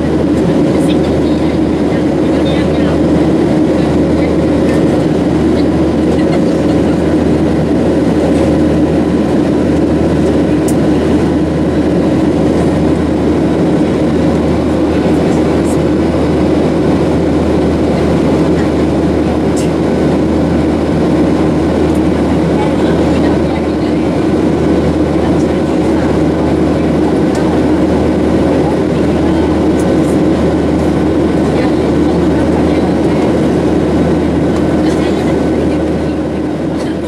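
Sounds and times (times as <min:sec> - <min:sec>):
airplane cabin engine drone: 0:00.0 - 0:37.0.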